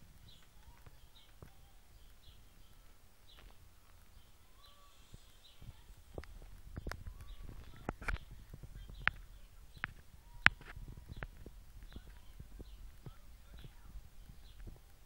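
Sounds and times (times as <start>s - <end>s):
faint bird chirps: 0.1s - 15.0s.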